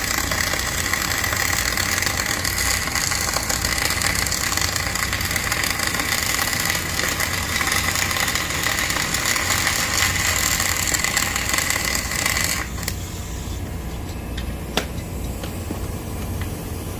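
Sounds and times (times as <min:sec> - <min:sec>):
electric arc crackling and hissing: 0:00.0 - 0:13.9
low machine hum: 0:00.0 - 0:16.9.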